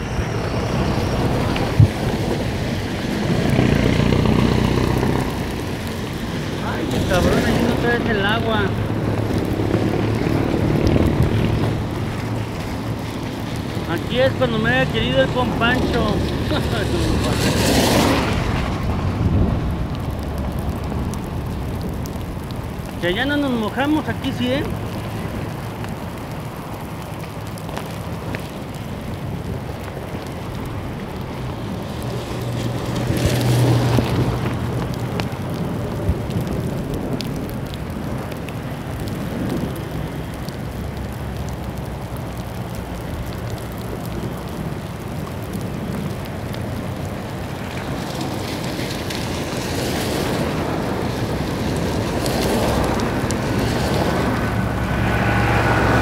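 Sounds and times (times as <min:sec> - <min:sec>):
steady rain: 0:00.0 - 0:56.0
tyres hissing on wet road: 0:00.0 - 0:56.0.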